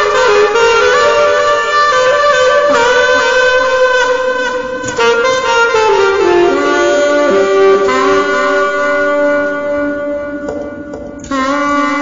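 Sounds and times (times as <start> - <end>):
saxophone held notes: 0.0 - 12.0.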